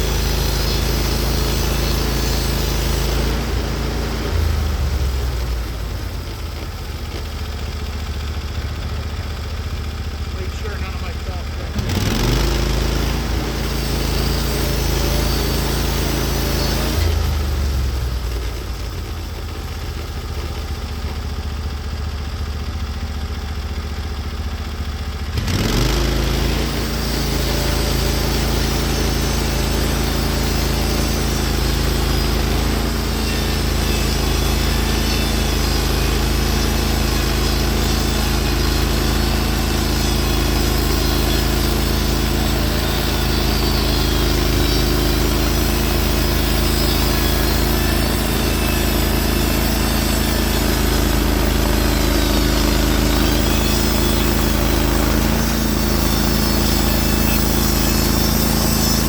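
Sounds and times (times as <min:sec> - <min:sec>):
band blade sawing through log: 0:00.0 - 0:07.3, 0:10.4 - 0:18.5, 0:25.4 - 0:59.0
sawmill gas engine running: 0:00.0 - 0:59.0.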